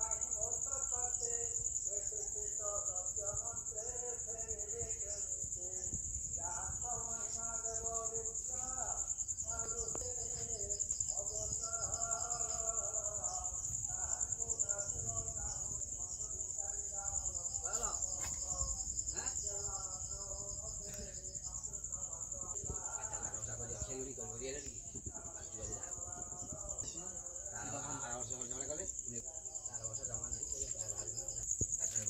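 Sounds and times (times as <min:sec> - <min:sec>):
crickets trilling: 0:00.0 - 0:32.0
people's voices: 0:00.0 - 0:32.0.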